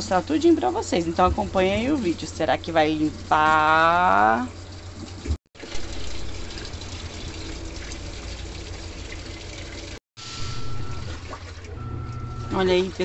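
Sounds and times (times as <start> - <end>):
low motor hum: 0.0 - 13.0
washing machine churning water: 0.0 - 13.0.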